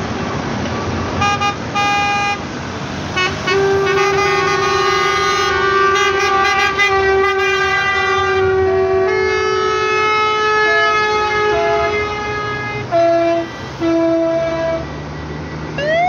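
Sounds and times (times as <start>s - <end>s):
diesel engine rumble: 0.0s - 16.0s
truck air horn blasts: 1.2s - 2.5s, 3.1s - 14.9s.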